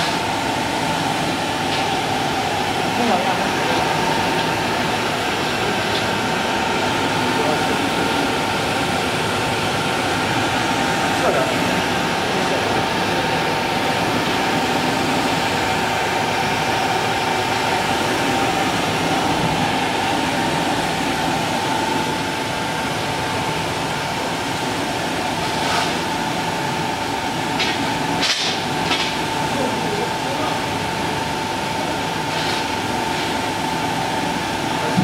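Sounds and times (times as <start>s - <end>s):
cnc router spindle whine: 0.0s - 35.0s
dust collector rushing drone: 0.0s - 35.0s.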